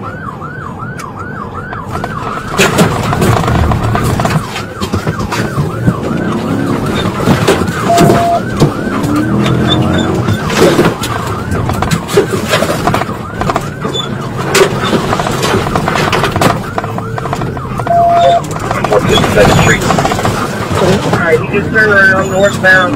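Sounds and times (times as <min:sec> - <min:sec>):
engine and road noise: 0:00.0 - 0:22.9
police siren yelping: 0:00.0 - 0:22.9.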